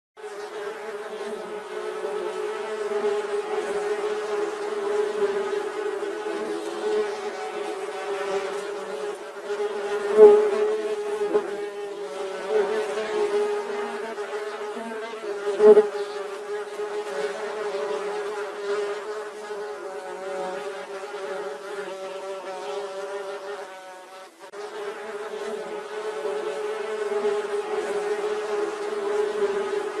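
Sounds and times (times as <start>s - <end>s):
bees buzzing: 0.2s - 30.0s.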